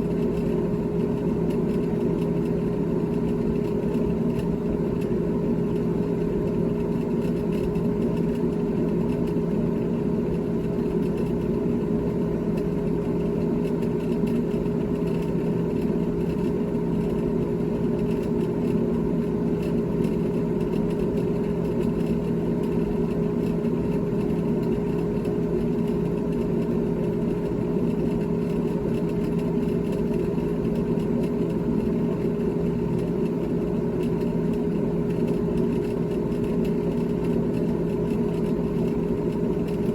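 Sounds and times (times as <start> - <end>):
refrigerator humming: 0.0 - 39.9.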